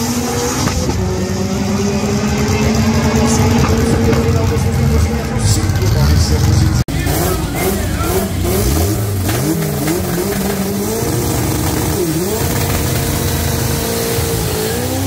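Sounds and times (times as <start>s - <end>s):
car engine revving: 0.0s - 15.0s
tyres spinning: 2.0s - 15.0s.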